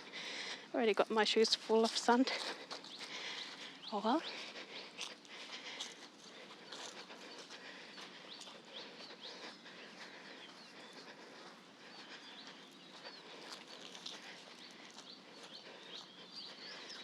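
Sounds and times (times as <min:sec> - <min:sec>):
birds chirping: 0:00.0 - 0:17.0
faint outdoor background noise: 0:00.0 - 0:17.0
footsteps crunching in sand: 0:00.9 - 0:17.0.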